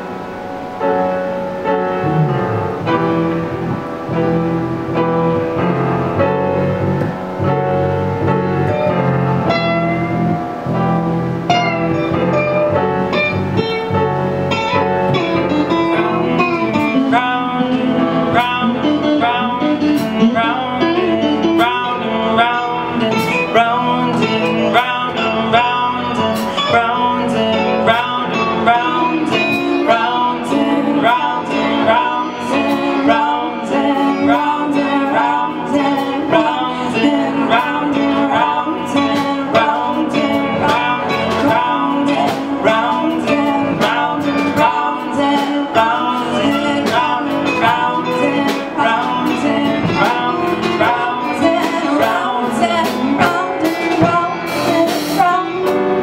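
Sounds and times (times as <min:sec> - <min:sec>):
drums: 0:00.0 - 0:56.0
electric guitars: 0:00.0 - 0:56.0
lead singer singing: 0:01.6 - 0:56.0.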